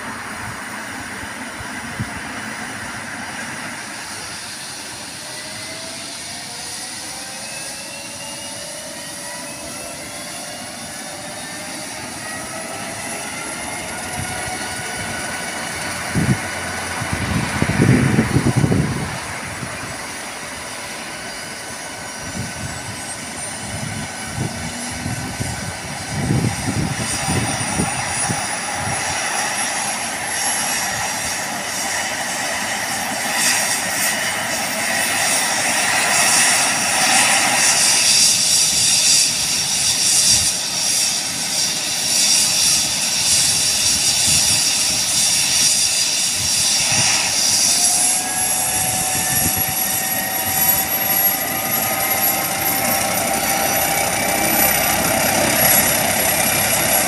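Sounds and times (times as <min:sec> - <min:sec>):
helicopter turbine whine: 0:00.0 - 0:57.0
rising turbine whine: 0:00.0 - 0:57.0.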